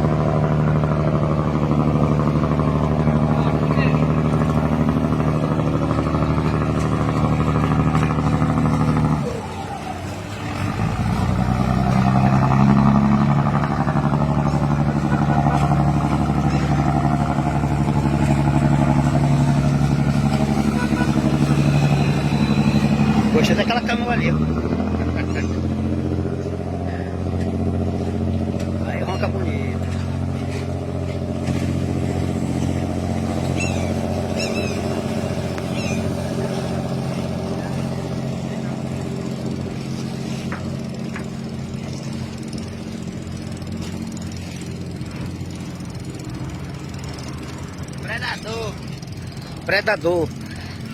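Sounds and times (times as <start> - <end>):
boat diesel engine running hard: 0.0 - 50.9.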